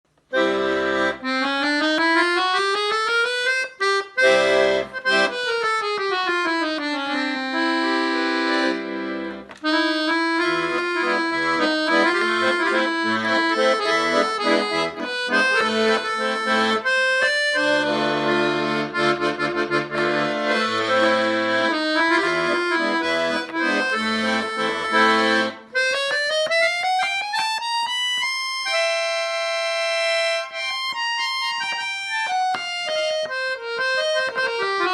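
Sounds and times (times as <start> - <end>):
accordion playing lively piece: 0.2 - 34.9.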